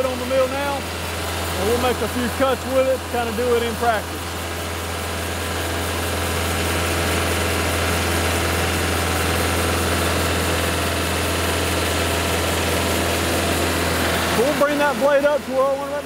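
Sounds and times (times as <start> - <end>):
sawmill engine humming: 0.0 - 16.0.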